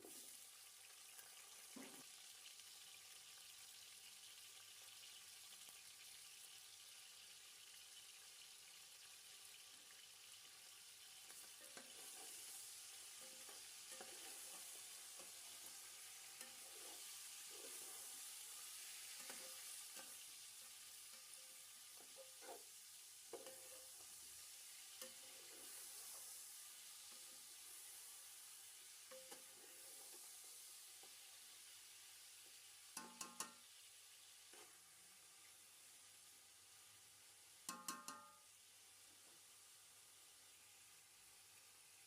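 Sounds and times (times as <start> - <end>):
food sizzling in a pot: 0.0 - 42.0.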